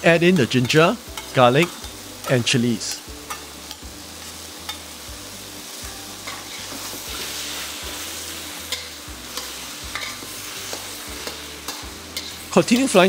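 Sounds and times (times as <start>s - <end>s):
mushrooms sizzling in oil: 0.0s - 13.0s.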